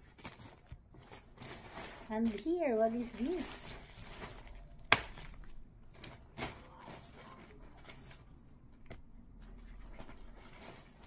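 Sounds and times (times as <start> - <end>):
plastic and paper packaging rustling: 0.0 - 11.0.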